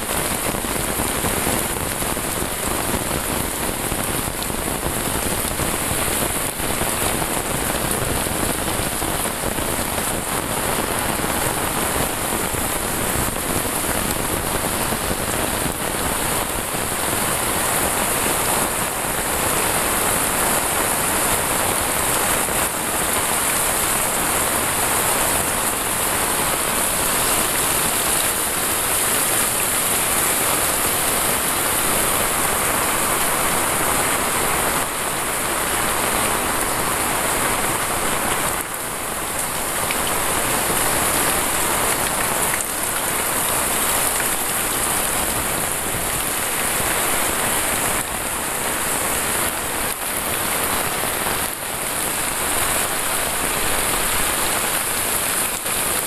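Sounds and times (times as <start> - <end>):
heavy rain pouring: 0.0 - 56.0
water running off roof: 0.0 - 56.0.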